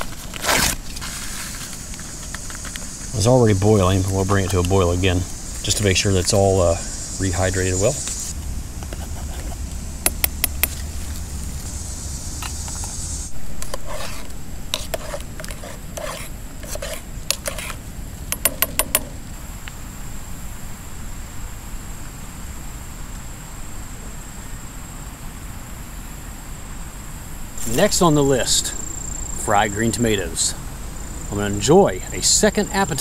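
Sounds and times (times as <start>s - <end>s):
high insect trill: 0.0s - 33.0s.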